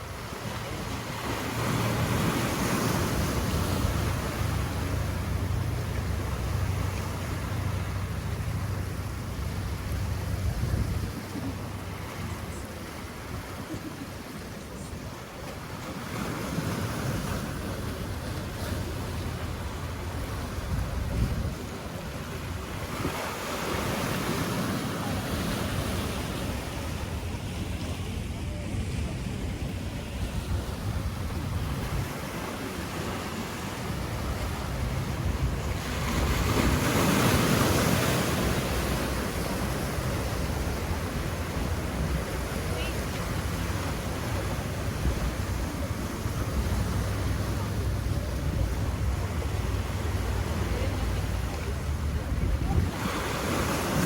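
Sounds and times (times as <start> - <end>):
wind gusting on microphone: 0.0 - 13.8, 16.5 - 54.0
ocean surf washing in: 0.0 - 54.0.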